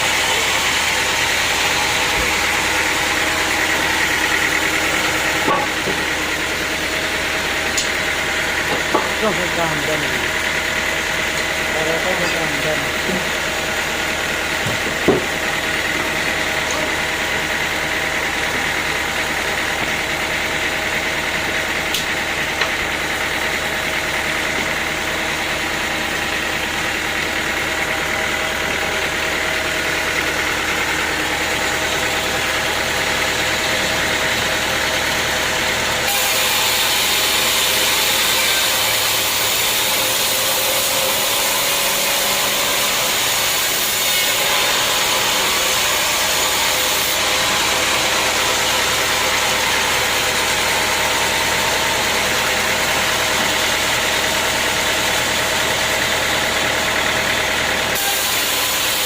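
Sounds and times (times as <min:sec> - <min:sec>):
loud hissing machine noise: 0:00.0 - 0:59.0
sawmill machinery humming: 0:00.0 - 0:59.0.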